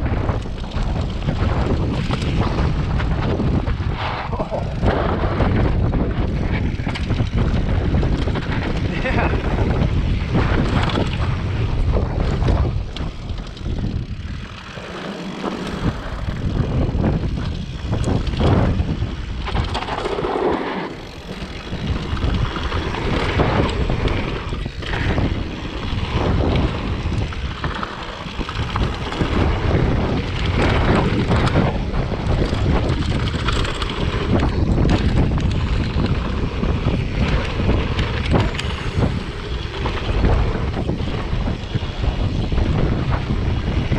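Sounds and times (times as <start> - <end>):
bike rattling on dirt trail: 0.0 - 43.9
wind buffeting microphone: 0.0 - 43.9.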